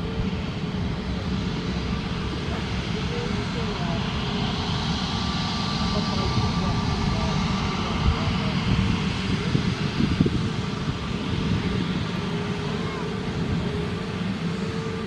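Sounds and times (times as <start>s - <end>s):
faint engine whine: 0.0s - 15.0s
jet engines rumbling: 0.0s - 15.0s.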